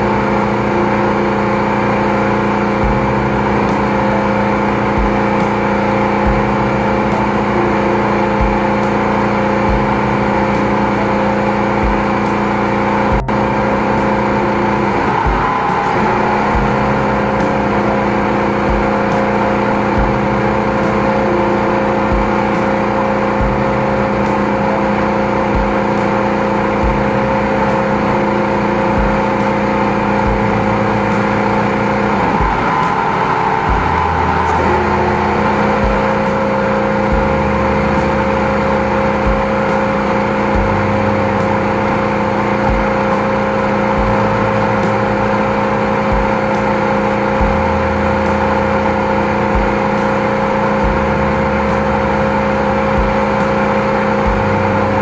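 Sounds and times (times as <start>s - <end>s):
engine-driven pump running: 0.0s - 55.0s.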